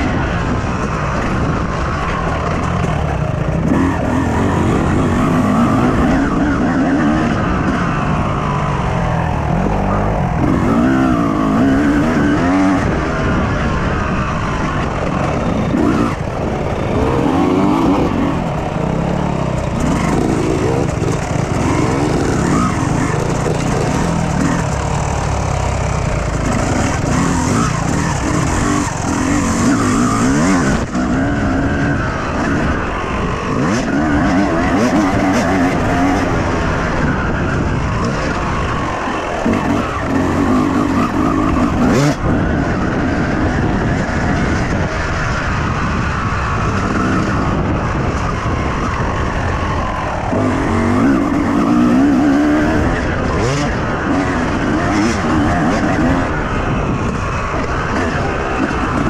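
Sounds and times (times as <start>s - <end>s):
two-stroke motocross engine revving: 0.0s - 59.0s.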